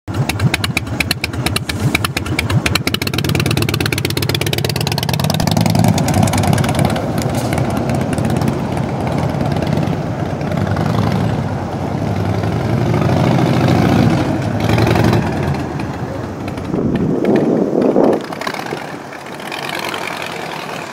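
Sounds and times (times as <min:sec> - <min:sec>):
motorcycle engine idling and revving: 0:00.1 - 0:20.9.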